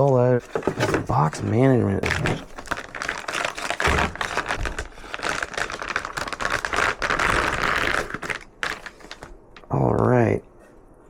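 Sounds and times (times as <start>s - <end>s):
packaging rustling and crinkling: 0.0s - 9.7s.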